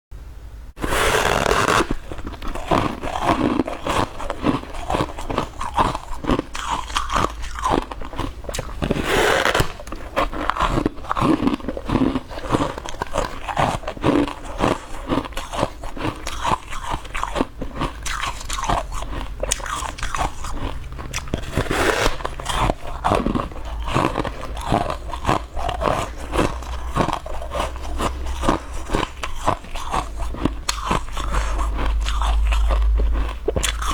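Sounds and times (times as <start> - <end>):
chewing crunching ice: 0.8 - 33.9.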